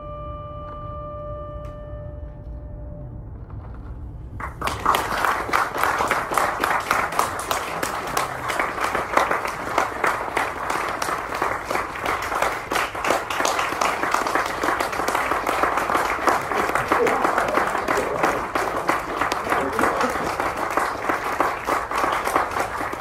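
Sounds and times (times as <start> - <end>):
audience applauding: 4.4 - 23.0.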